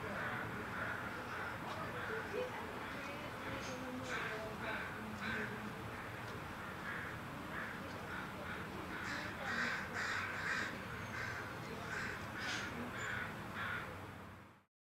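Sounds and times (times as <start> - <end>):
steady background noise: 0.0 - 14.7
crows cawing: 0.1 - 14.0.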